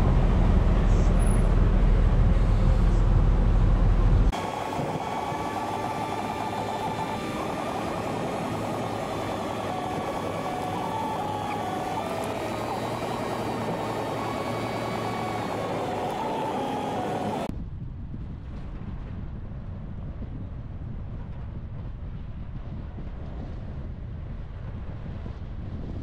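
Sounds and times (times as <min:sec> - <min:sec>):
engine drone with whine: 0:00.0 - 0:26.0.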